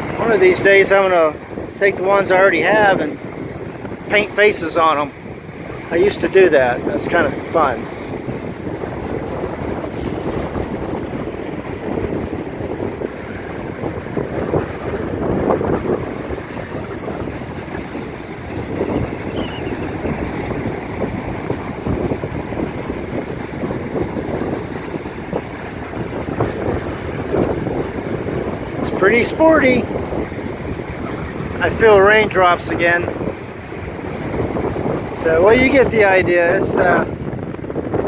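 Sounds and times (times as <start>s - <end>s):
surf breaking: 0.0s - 38.0s
wind buffeting microphone: 0.0s - 38.0s.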